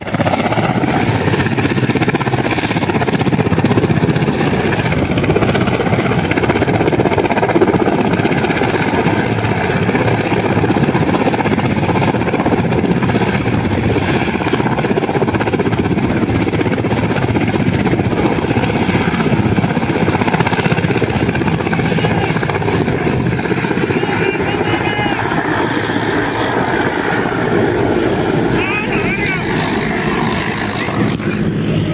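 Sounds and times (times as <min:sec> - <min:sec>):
helicopter rotor chop: 0:00.0 - 0:31.9.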